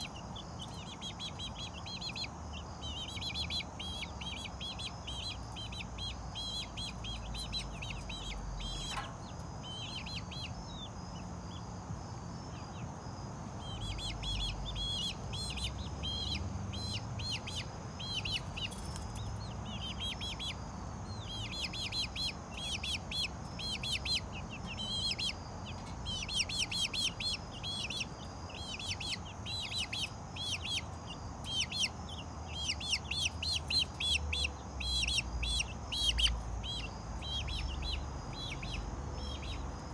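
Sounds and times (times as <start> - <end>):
chicks peeping: 0.0 - 11.8, 12.4 - 39.9.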